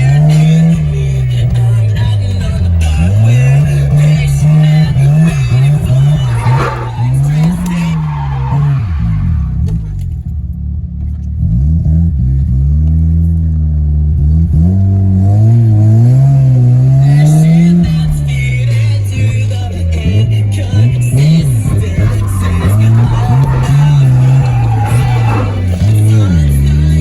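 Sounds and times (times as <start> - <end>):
car engine revving hard: 0.0 - 10.1, 11.4 - 27.0.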